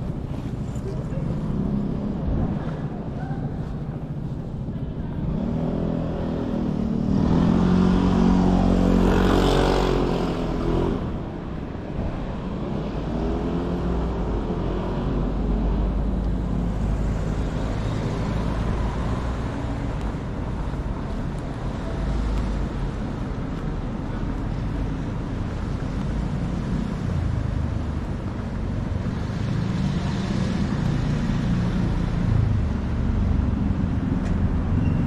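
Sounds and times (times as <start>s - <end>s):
street traffic: 0.0s - 35.0s.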